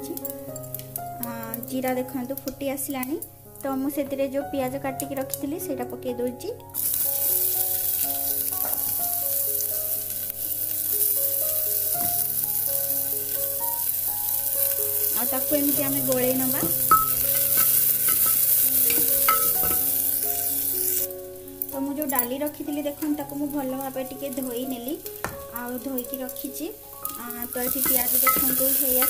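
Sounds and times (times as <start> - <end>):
onion sizzling in hot oil: 0.0 - 29.0.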